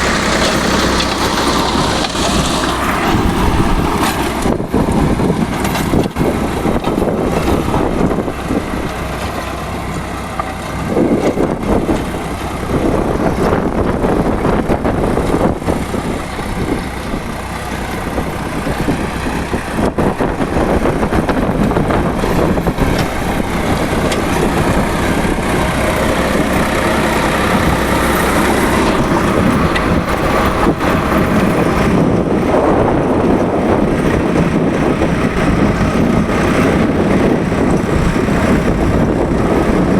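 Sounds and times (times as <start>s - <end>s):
rotavator mechanical clatter: 0.0s - 39.9s
tractor diesel engine running: 0.0s - 39.9s.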